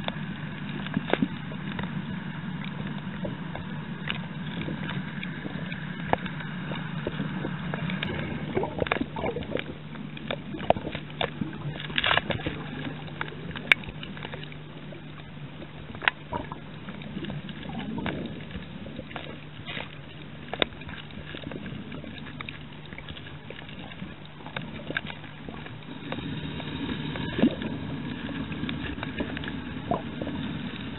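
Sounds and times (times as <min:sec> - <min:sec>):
low underwater hum: 0:00.0 - 0:30.9
underwater clicks and crackles: 0:00.0 - 0:30.9.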